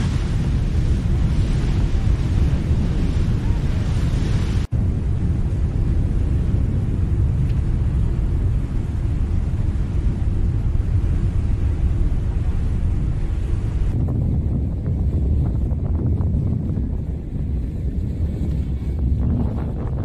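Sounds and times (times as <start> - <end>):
deep volcanic rumble: 0.0 - 20.0.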